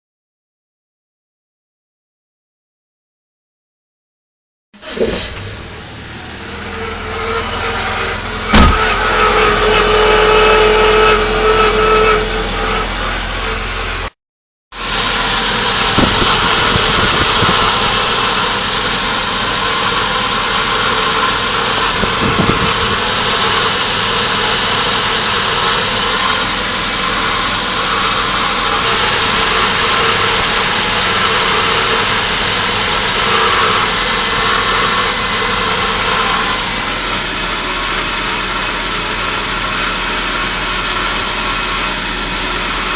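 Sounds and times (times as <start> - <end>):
engine running: 4.8 - 14.1, 14.8 - 42.9
steady whine: 4.8 - 14.1, 14.8 - 42.9.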